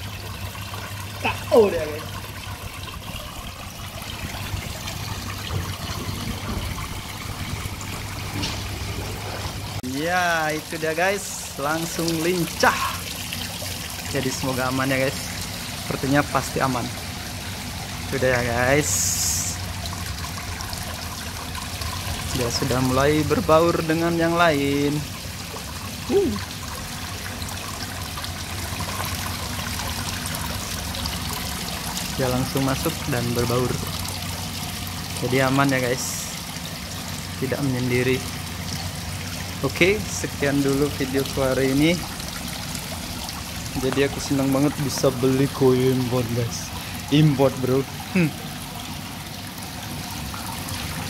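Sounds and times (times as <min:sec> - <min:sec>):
water trickling into a pond: 0:00.0 - 0:51.0.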